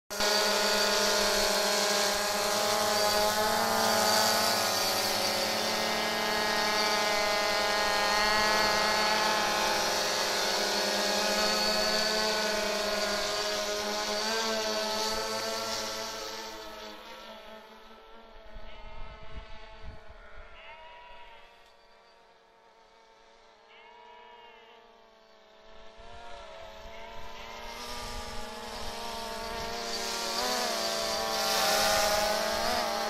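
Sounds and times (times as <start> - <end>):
quadcopter propellers buzzing: 0.1 - 20.2, 20.8 - 33.0.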